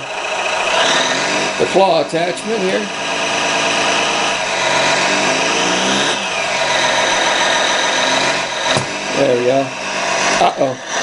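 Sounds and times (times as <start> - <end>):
model excavator hydraulic pump and motor: 0.0 - 11.0.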